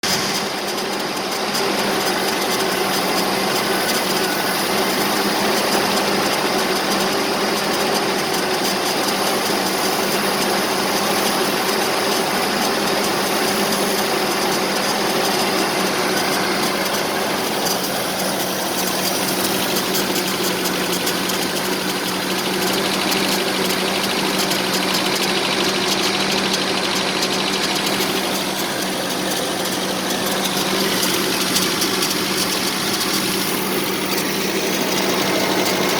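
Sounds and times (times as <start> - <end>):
pickup engine rough idle: 0.0 - 35.9.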